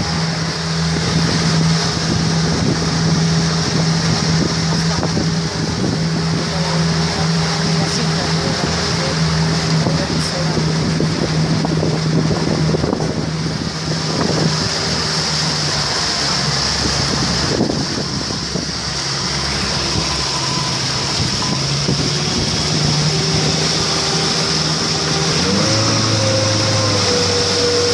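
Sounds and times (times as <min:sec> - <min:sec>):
motorboat engine humming: 0:00.0 - 0:27.9
water along hull: 0:00.0 - 0:27.9
wind on microphone: 0:00.0 - 0:27.9.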